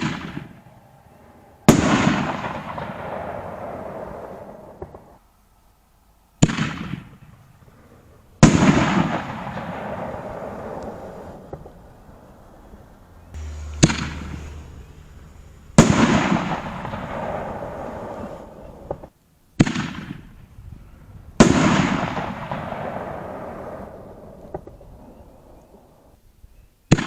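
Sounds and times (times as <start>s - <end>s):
firework shells booming: 0.0s - 5.2s, 6.4s - 12.3s, 13.4s - 20.4s, 21.4s - 25.0s.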